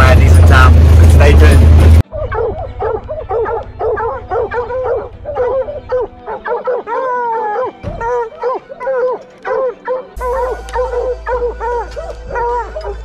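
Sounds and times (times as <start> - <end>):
hounds baying: 2.0 - 13.0
dog howling: 2.1 - 13.0.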